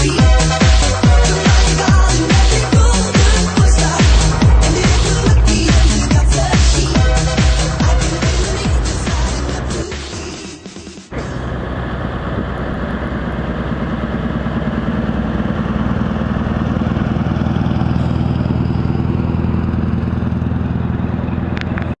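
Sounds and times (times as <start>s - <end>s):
diesel engine running: 0.0s - 10.1s, 11.1s - 22.0s.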